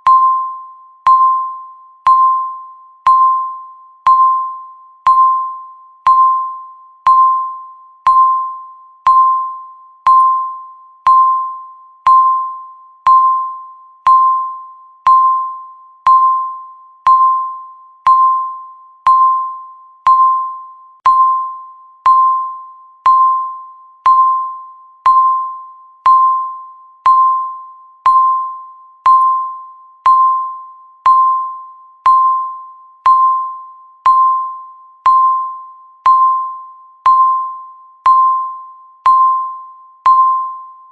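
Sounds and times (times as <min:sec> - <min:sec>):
electronic timer beeps: 0:00.0 - 0:40.9.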